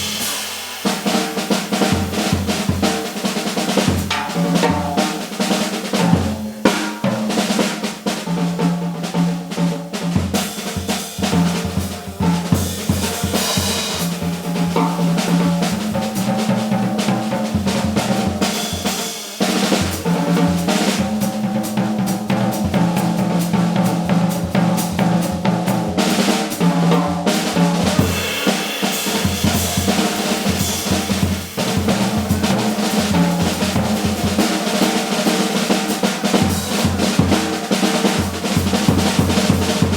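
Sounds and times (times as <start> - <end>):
drum kit: 0.0 - 39.9
jazz combo playing: 0.0 - 39.9.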